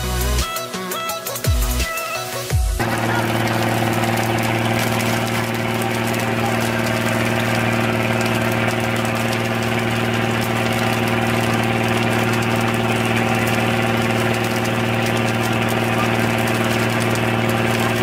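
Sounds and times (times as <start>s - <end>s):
boat engine humming: 2.8s - 18.0s.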